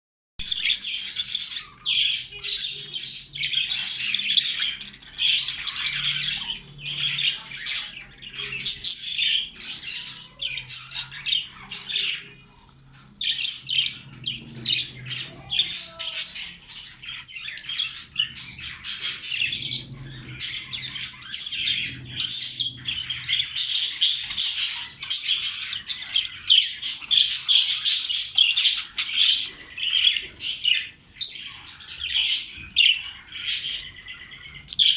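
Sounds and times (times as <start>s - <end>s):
budgerigars chattering: 0.4s - 34.9s.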